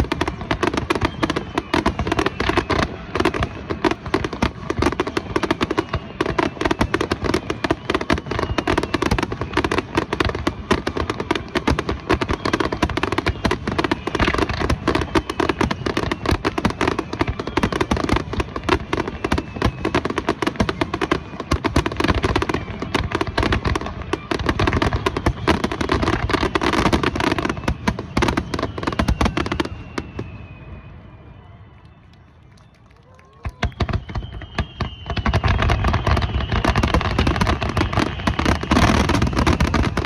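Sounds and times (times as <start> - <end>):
faint firework whistles: 0.0 - 40.0
fireworks bangs and crackling: 0.0 - 40.0.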